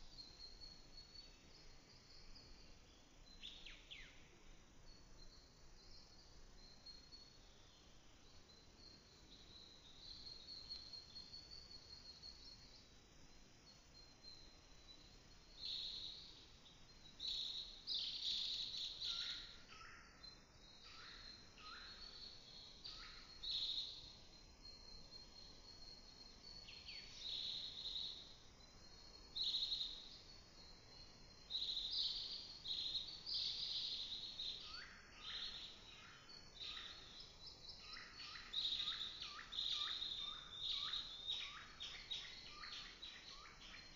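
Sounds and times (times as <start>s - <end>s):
small songbirds chirping: 0.0s - 43.9s.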